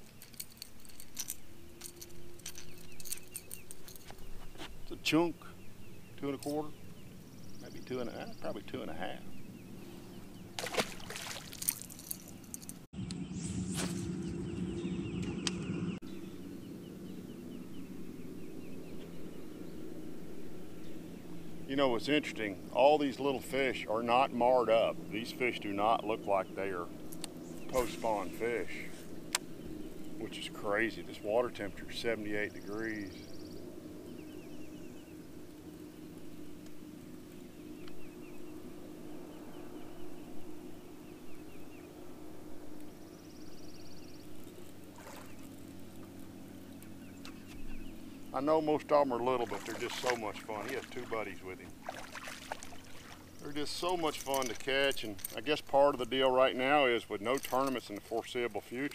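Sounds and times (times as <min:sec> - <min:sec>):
electric trolling motor humming: 0:00.0 - 0:54.3
bird chirping: 0:00.0 - 0:58.7.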